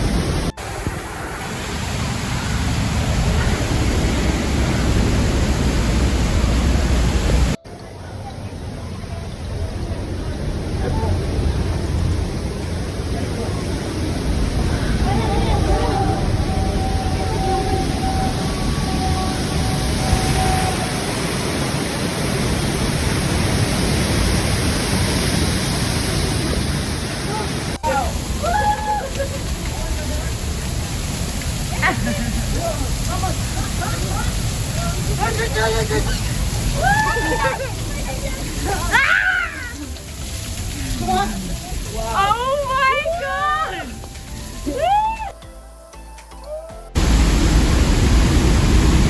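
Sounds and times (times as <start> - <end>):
waterfall roaring: 0.0 - 45.3, 47.0 - 49.0.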